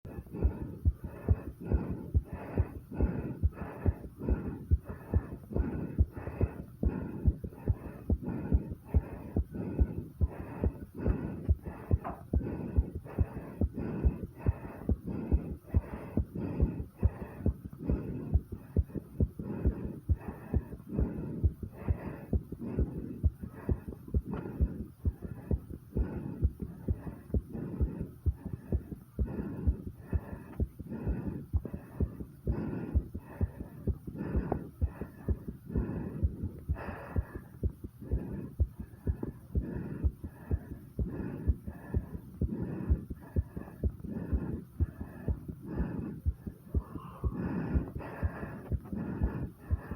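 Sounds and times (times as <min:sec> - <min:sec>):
fast heartbeat thumps: 0:00.0 - 0:49.9.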